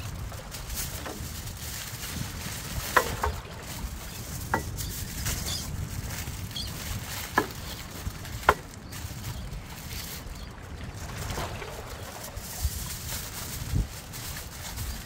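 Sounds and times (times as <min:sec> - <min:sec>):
aluminium foil crinkling: 0:00.0 - 0:10.6, 0:12.1 - 0:15.0
wind rumble on microphone: 0:00.0 - 0:15.0.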